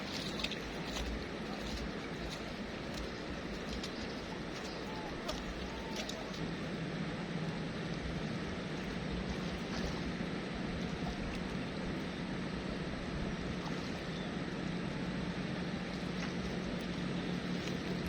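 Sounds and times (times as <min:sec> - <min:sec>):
river water flowing: 0:00.0 - 0:18.0
steady low hum: 0:00.0 - 0:18.0.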